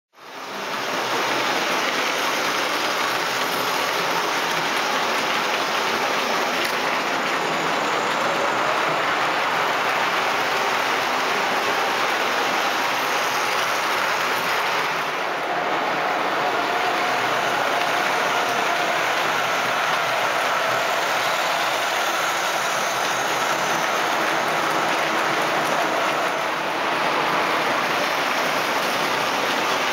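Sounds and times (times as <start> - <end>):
model train wheels clattering: 0.6 - 15.1, 16.7 - 29.9.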